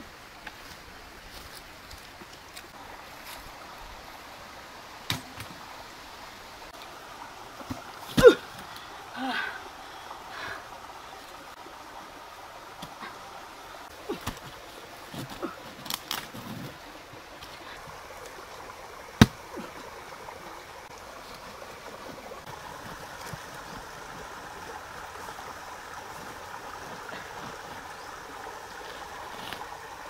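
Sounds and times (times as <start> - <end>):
stream running over stones: 0.0 - 30.0.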